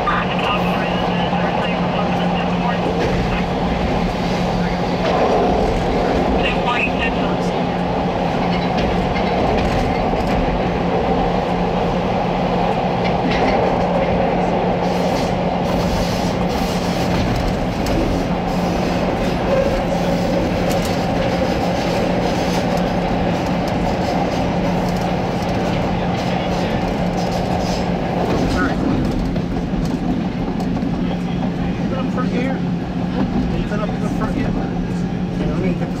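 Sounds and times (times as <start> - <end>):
wheels rumbling on rail: 0.0 - 36.0.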